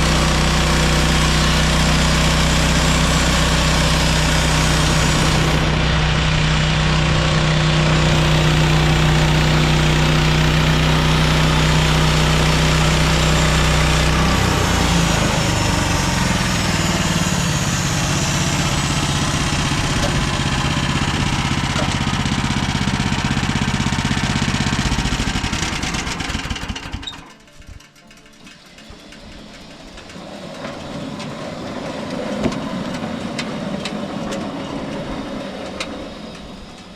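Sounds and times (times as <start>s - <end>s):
sawmill gas engine running: 0.0s - 36.9s.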